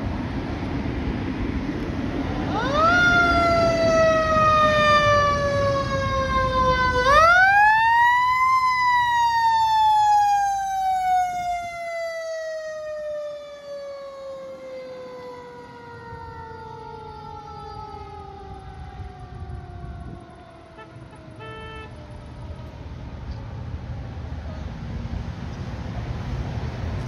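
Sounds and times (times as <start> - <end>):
fire engine siren wailing: 2.0 - 25.0.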